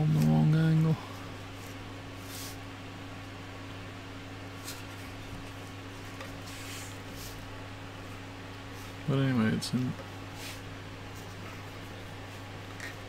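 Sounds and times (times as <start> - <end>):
low hum of fan: 0.0 - 13.0.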